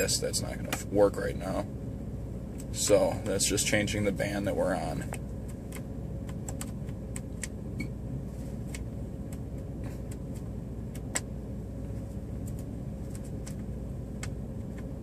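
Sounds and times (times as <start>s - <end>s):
car engine hum inside cabin: 0.0s - 15.0s.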